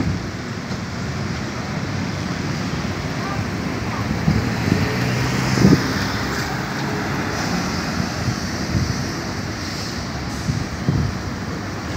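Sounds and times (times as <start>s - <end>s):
street traffic rumble: 0.0s - 11.9s
wind buffeting microphone: 0.0s - 11.9s.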